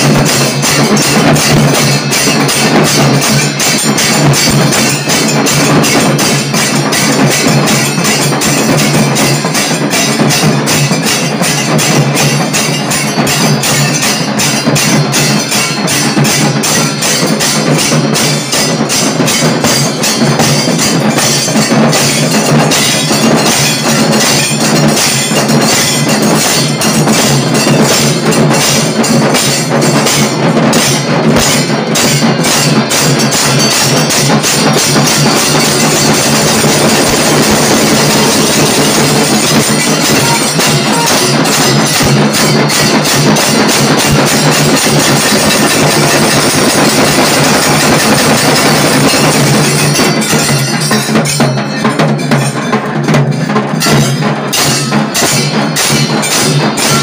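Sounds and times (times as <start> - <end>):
group drumming fast rhythm: 0.0 - 57.0.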